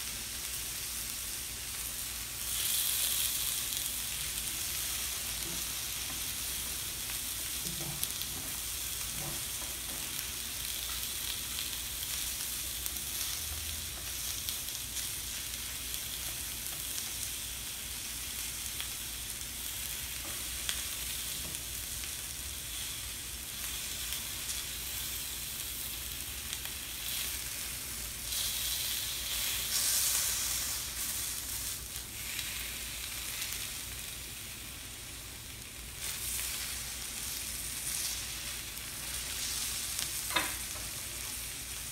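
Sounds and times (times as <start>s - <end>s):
meat sizzling on a griddle: 0.0s - 41.9s.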